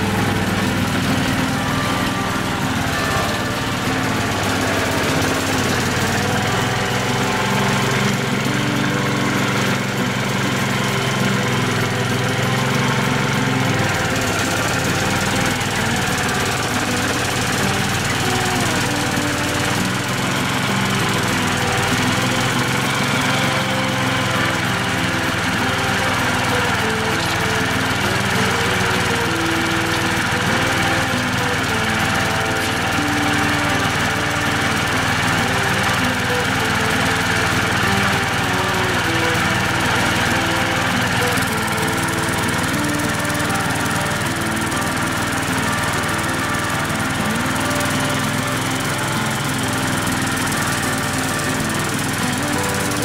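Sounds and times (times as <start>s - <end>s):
small outboard motor running: 0.0s - 53.0s.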